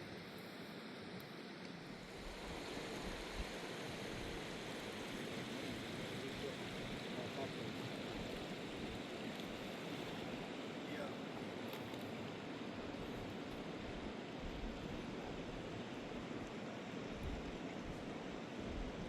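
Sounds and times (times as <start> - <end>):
river rushing: 0.7 - 19.0.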